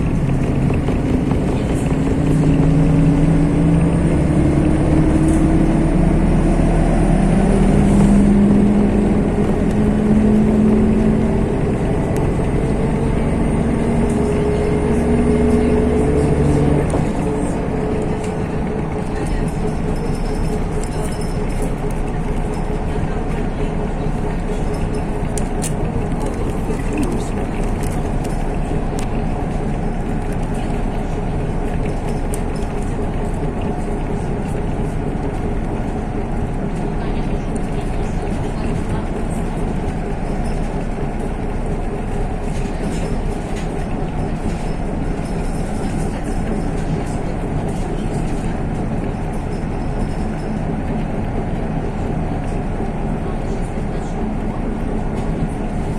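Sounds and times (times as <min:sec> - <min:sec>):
bus engine and road drone: 0:00.0 - 0:55.9.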